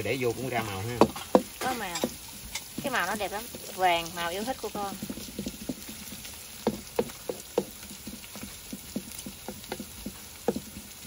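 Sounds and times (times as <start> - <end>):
meat crackling and popping in a pan: 0.0 - 11.0.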